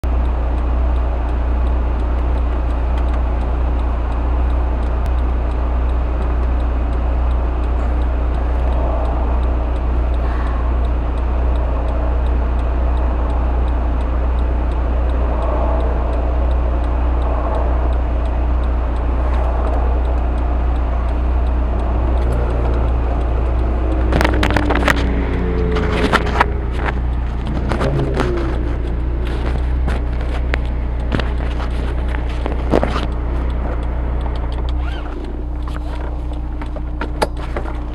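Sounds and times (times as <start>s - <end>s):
car engine cruising: 0.0s - 37.9s
clicks: 0.0s - 37.9s
road and tyre noise: 0.0s - 37.9s.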